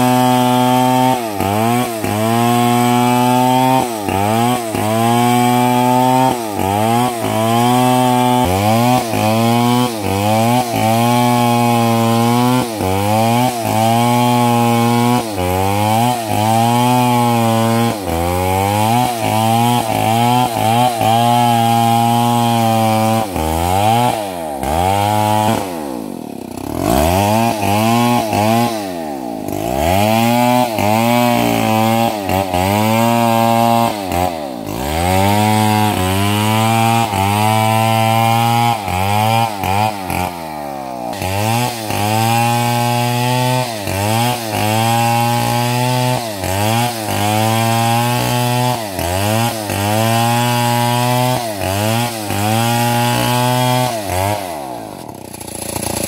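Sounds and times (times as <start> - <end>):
chainsaw cutting through log: 0.0 - 56.0.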